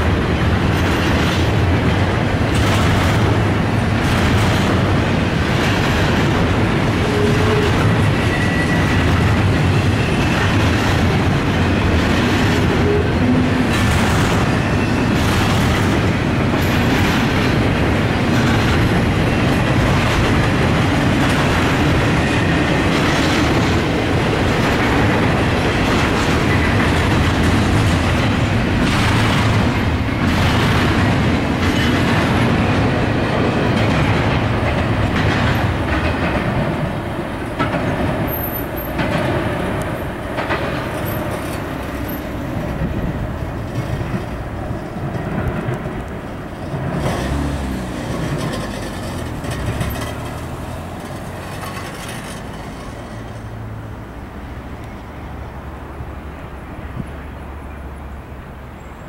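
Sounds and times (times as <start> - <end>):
wheels clacking over rail joints: 0.0 - 55.4
freight train rumbling past: 0.0 - 59.0.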